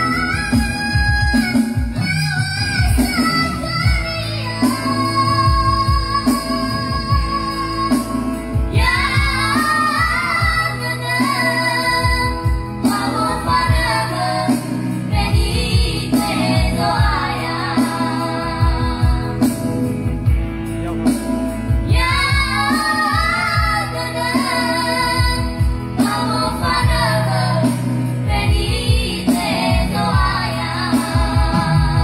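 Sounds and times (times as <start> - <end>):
backing music with steady beat: 0.0 - 32.0.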